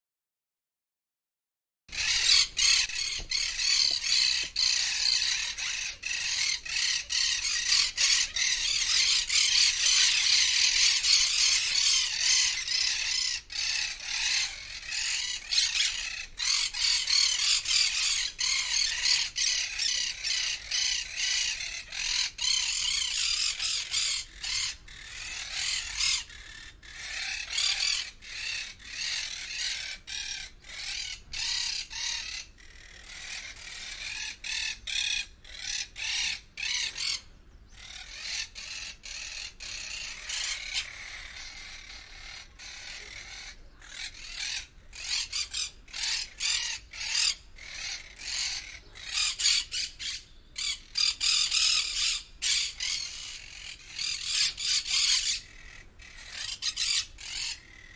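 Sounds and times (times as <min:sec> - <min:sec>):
many birds twittering: 0:01.9 - 0:57.9.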